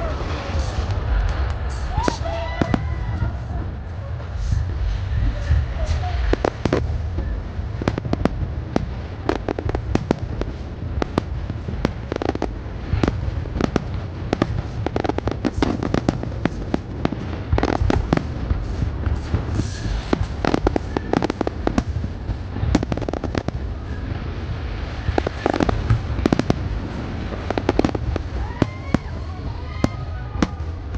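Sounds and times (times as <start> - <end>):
fireworks bursting: 0.0 - 30.9
low rumble: 0.0 - 30.9.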